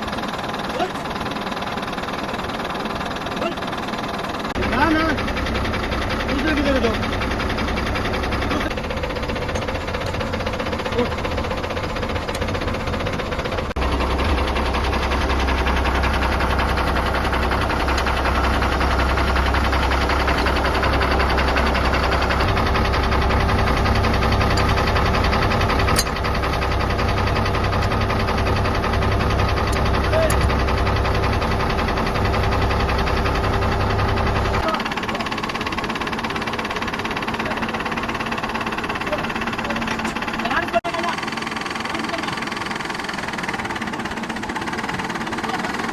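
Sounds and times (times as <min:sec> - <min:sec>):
large engine running: 0:00.0 - 0:45.9.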